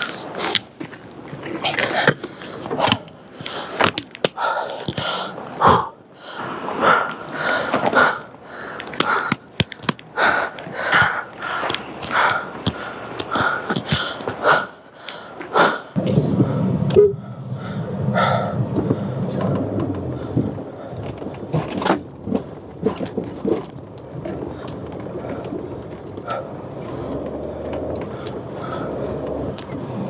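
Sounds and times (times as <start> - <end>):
heavy irregular breathing: 1.5 - 30.0.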